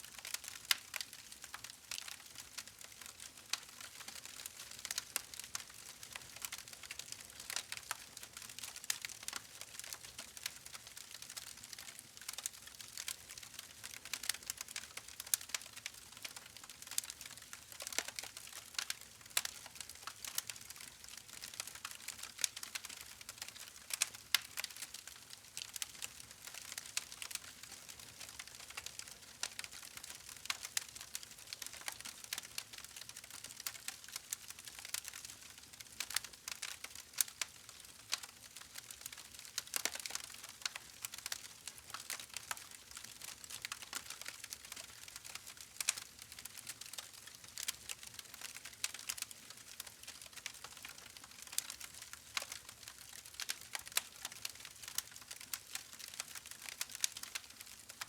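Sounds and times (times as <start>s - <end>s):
faint steady hiss: 0.0s - 58.0s
campfire wood crackling: 0.2s - 58.0s.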